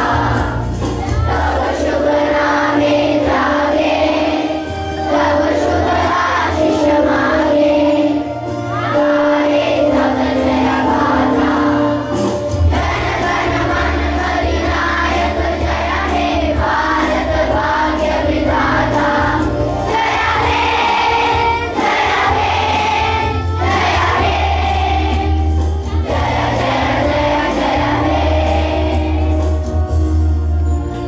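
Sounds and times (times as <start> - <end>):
children singing in unison: 0.0 - 29.9
low musical accompaniment: 0.0 - 31.0.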